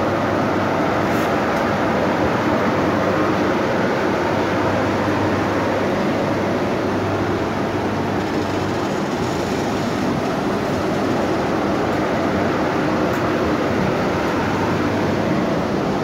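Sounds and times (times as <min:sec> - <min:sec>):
electric locomotive running: 0:00.0 - 0:16.0.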